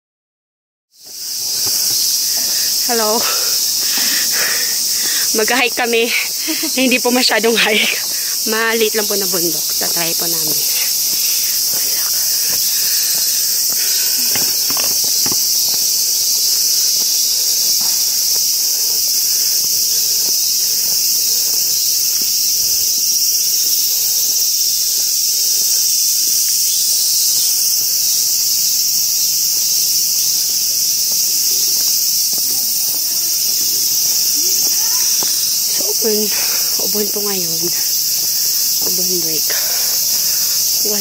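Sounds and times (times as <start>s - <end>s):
cicadas chorus: 0.9s - 41.0s
faint footsteps on trail: 1.0s - 41.0s.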